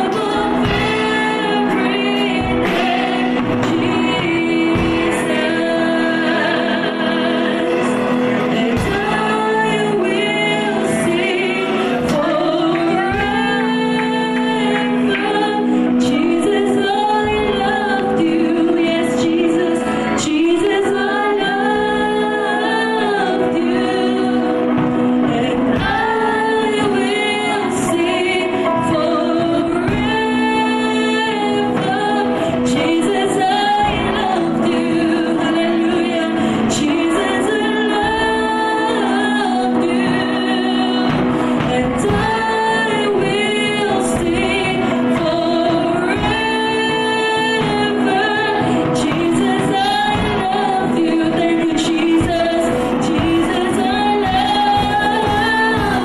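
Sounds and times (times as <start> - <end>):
sustained musical backing: 0.0 - 56.0
woman singing into a microphone: 0.0 - 56.0.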